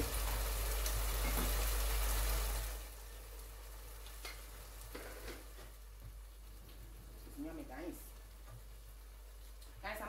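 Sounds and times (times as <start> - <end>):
sauce sizzling and bubbling: 0.0 - 10.0.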